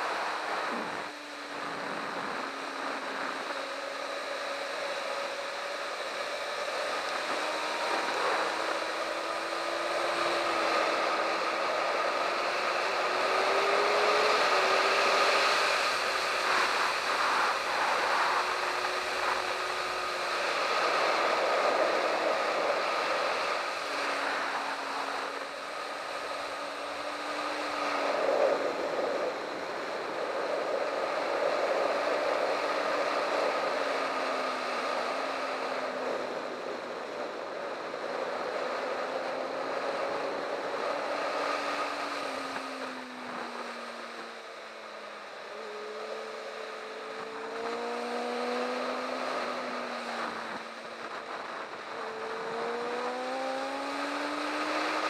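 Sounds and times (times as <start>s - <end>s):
motorcycle engine running hard: 0.0s - 55.0s
wind rush: 6.8s - 55.0s.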